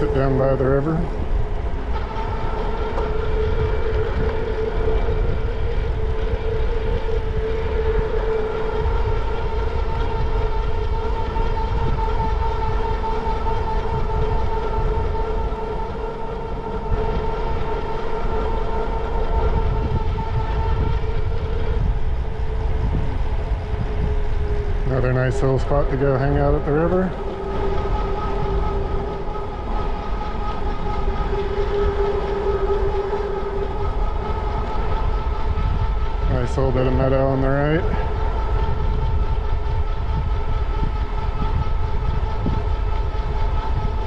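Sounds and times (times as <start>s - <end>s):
electric bike motor whining: 0.0s - 44.0s
wind rumble on microphone: 0.0s - 44.0s.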